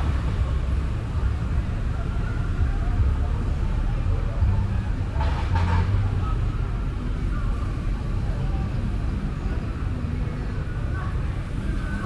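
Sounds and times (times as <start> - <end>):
faint voices: 0.0 - 12.0
motorbikes passing: 0.0 - 12.0
traffic hum: 0.0 - 12.0.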